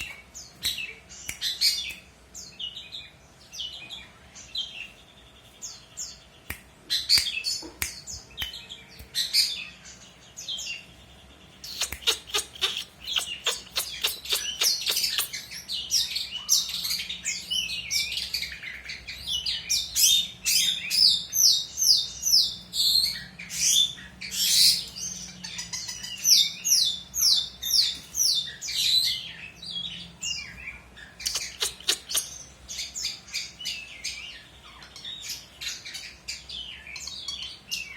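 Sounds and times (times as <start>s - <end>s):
bird chattering song: 0.0s - 37.9s.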